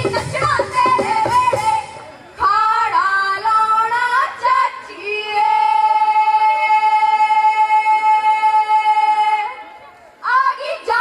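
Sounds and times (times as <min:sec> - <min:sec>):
woman singing folk song: 0:00.0 - 0:09.6.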